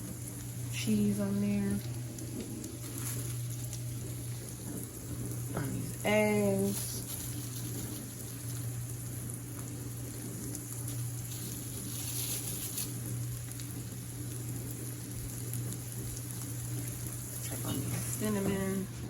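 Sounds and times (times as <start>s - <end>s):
eggs sizzling in a pan: 0.0s - 19.0s.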